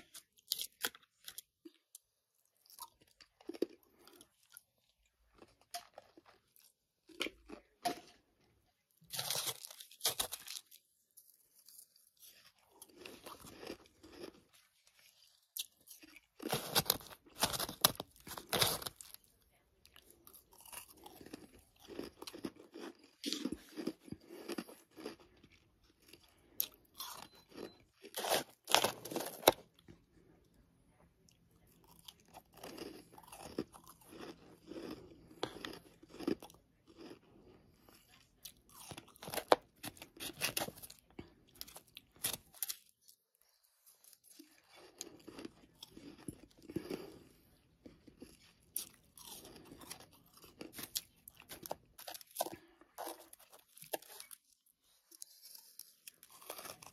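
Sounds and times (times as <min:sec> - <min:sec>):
crunching and chewing frost: 0:00.0 - 0:56.9.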